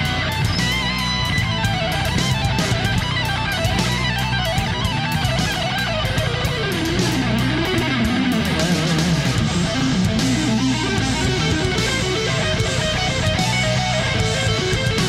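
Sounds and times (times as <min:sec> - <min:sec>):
rock music with electric guitar: 0:00.0 - 0:15.0
steady drum beat: 0:00.0 - 0:15.0.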